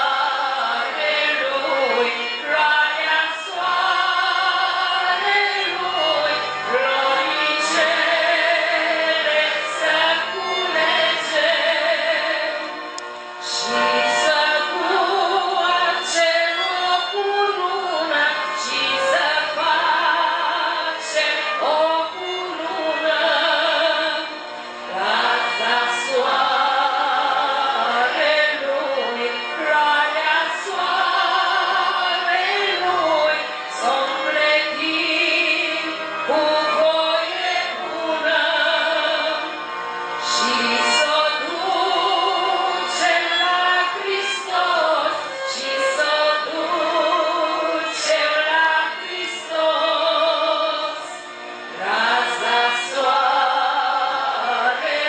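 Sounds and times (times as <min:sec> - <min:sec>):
woman singing into a microphone: 0:00.0 - 0:39.6, 0:40.2 - 0:55.0
folk band with violin: 0:00.0 - 0:55.0.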